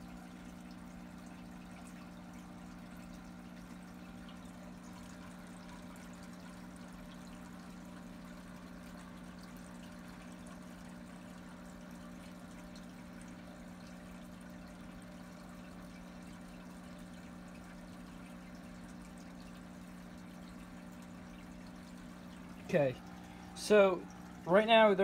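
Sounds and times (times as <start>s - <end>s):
low even hum: 0.0s - 25.0s
water trickling: 0.0s - 25.0s.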